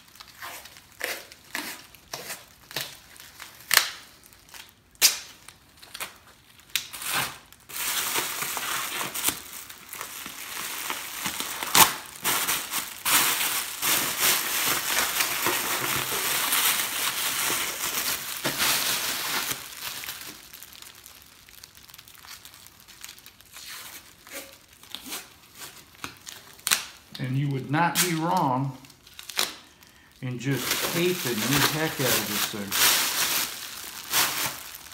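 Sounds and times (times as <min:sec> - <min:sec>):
survival wrap crinkling: 0:00.0 - 0:34.9
sharp crackles: 0:02.7 - 0:25.0, 0:25.9 - 0:34.9.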